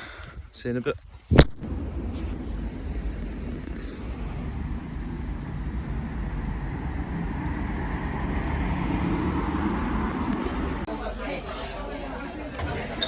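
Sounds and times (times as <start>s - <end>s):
road noise: 1.4s - 13.0s
vehicle engine rumble: 1.4s - 13.0s.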